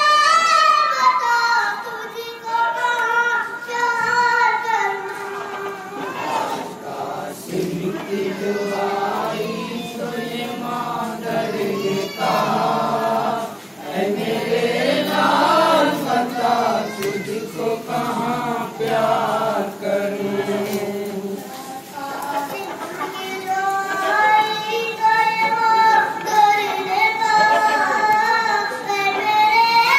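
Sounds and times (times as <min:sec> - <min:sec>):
boy chanting into a microphone: 0:00.0 - 0:29.9.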